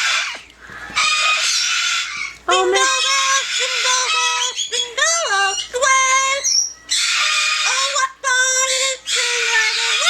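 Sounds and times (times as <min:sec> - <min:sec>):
parrot harsh squawk: 0:00.0 - 0:10.0
parrot speech-like calls: 0:01.0 - 0:10.0.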